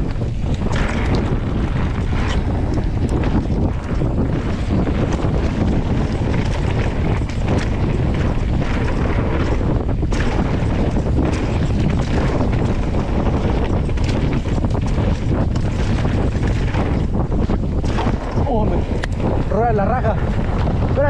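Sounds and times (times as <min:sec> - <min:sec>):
bike knocks and rattles: 0:00.0 - 0:21.0
wind buffeting on microphone: 0:00.0 - 0:21.0.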